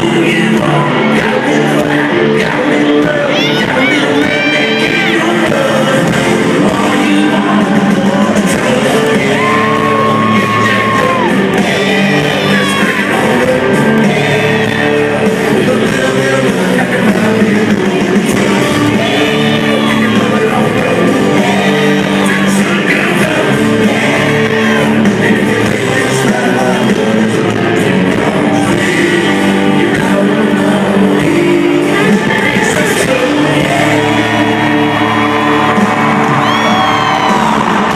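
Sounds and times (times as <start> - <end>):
country-rock band with male singer: 0.0 - 37.9
crowd shouting: 0.0 - 37.9.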